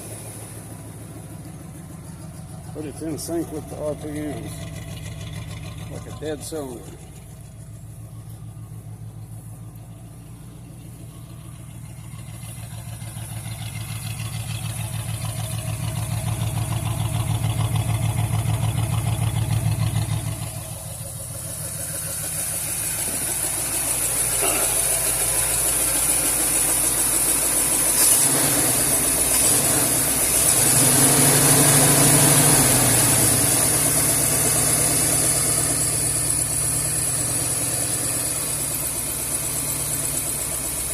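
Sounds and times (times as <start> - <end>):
rhythmic engine idling: 0.0 - 30.8, 32.2 - 40.9.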